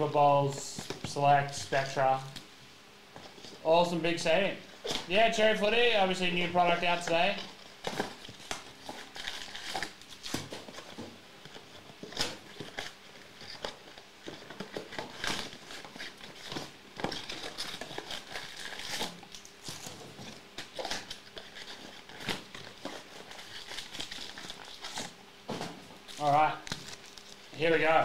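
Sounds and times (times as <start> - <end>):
foil packs crinkling: 3.3 - 28.0.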